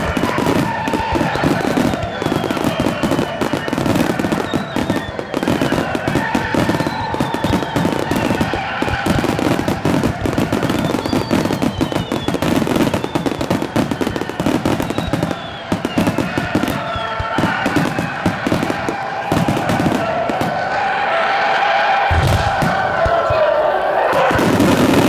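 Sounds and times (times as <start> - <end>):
fireworks shells bursting: 0.0 - 21.0
fireworks whistles falling in pitch: 0.0 - 25.0.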